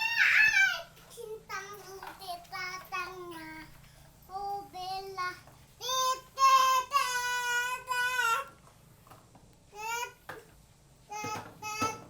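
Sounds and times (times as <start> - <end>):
young child singing: 0.0 - 8.6, 9.7 - 10.3, 11.1 - 12.0.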